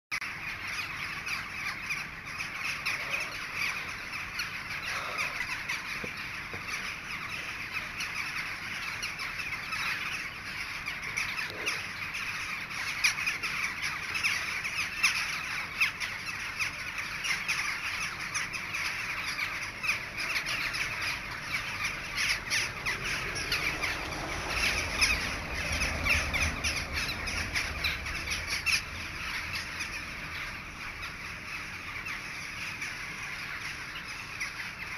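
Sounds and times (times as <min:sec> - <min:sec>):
crows cawing: 0:00.2 - 0:34.9.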